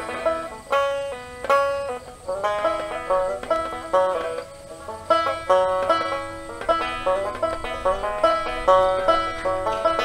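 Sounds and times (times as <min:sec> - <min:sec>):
acoustic guitar accompaniment: 0:00.0 - 0:10.0
banjo picking: 0:00.0 - 0:10.0.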